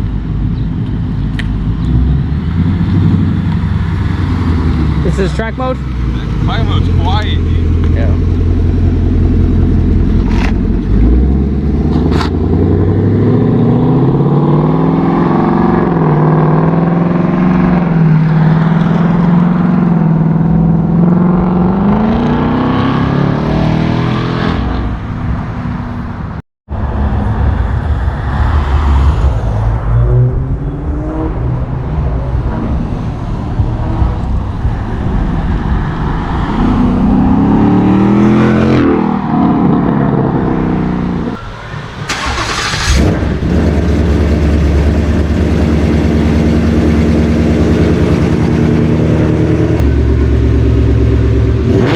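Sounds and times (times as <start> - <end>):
car exhaust accelerating: 0.0 - 25.1, 29.2 - 51.9.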